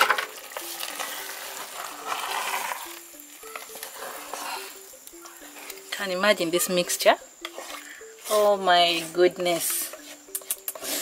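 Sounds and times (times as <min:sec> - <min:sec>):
sauce sizzling in a pot: 0:00.0 - 0:11.0
simple background melody: 0:00.0 - 0:11.0
wooden spoon stirring: 0:00.0 - 0:11.0.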